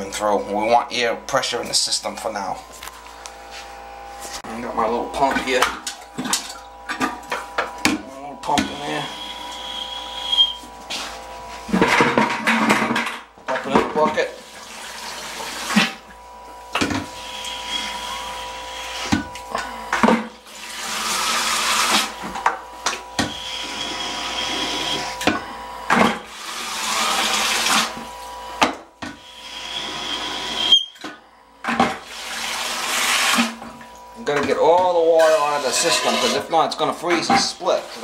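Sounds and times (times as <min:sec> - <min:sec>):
water rushing through suction pump: 0:03.8 - 0:11.9, 0:13.6 - 0:31.1, 0:31.8 - 0:38.0.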